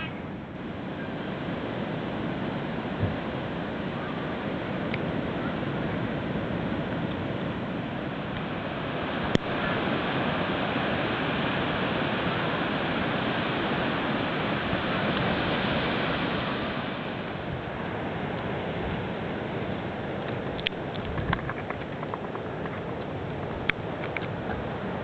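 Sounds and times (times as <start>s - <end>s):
ocean surf breaking on beach: 0.0s - 25.0s.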